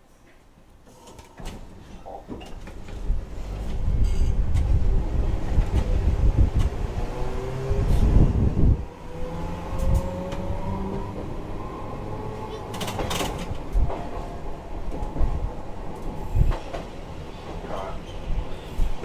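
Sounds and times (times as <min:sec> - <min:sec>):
tram wheels rumbling: 0:01.0 - 0:19.0.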